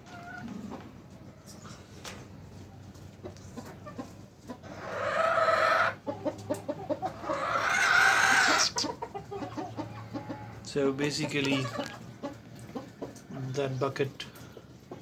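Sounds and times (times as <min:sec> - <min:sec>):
chickens loud calls: 0:00.0 - 0:13.4
chickens clucking: 0:00.0 - 0:15.0.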